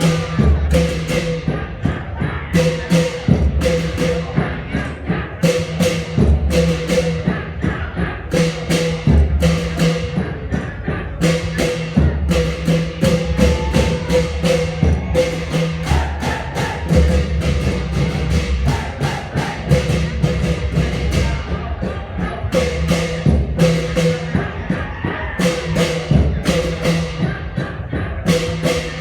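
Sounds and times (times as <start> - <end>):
deep booming drums: 0.0 - 29.0.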